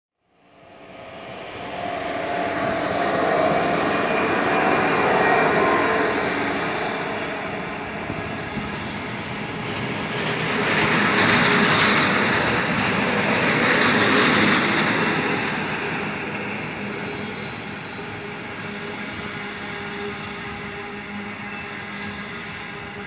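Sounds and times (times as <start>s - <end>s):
electric locomotive passing: 0.4s - 23.0s.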